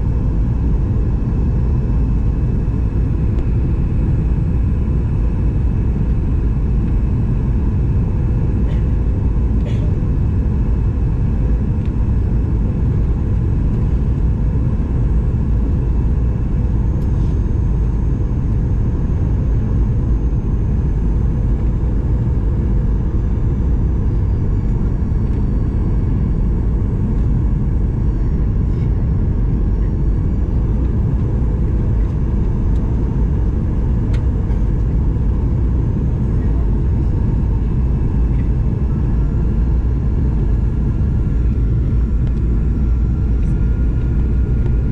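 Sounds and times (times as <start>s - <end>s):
airplane cabin rumble: 0.0s - 44.9s.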